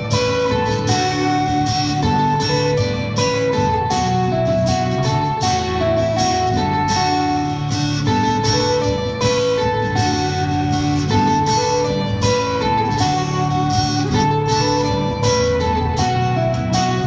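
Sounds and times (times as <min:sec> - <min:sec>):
guitar strumming: 0:00.0 - 0:17.0
held melody line: 0:00.0 - 0:17.0.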